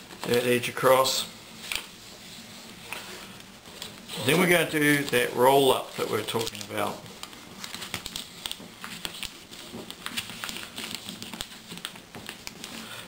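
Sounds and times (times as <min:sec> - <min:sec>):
paper rustling and crinkling: 0:01.6 - 0:13.0.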